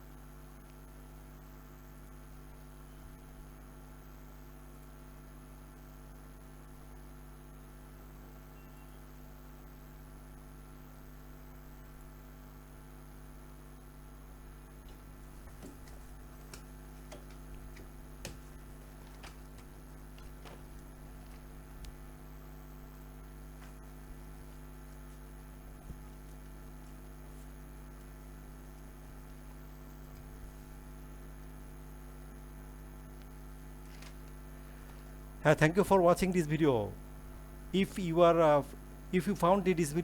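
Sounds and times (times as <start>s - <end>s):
electrical mains hum: 0.0s - 40.0s.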